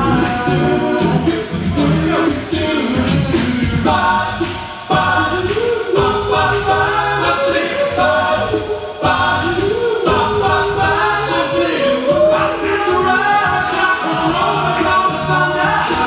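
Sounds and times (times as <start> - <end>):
male vocal group singing harmony: 0.0 - 16.0.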